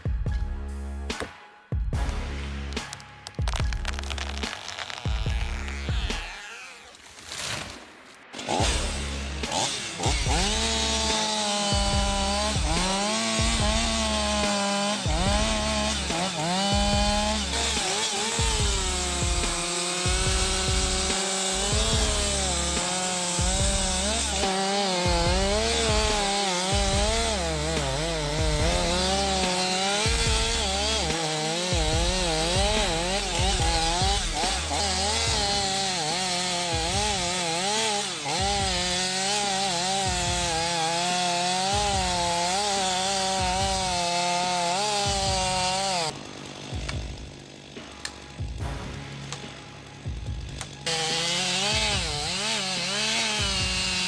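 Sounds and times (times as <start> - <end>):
chainsaw cutting wood: 1.0 - 1.4, 2.0 - 54.0.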